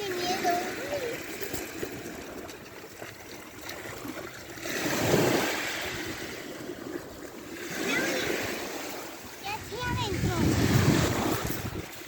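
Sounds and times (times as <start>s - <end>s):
sea waves washing on beach: 0.0s - 12.0s.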